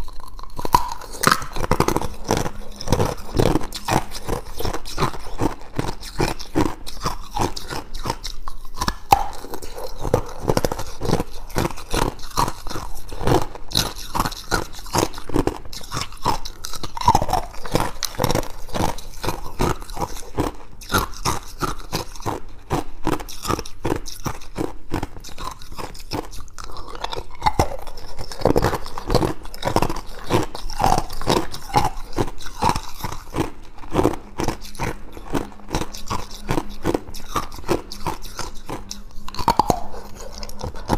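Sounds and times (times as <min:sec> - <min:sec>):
ice cubes crunching: 0:00.0 - 0:40.9.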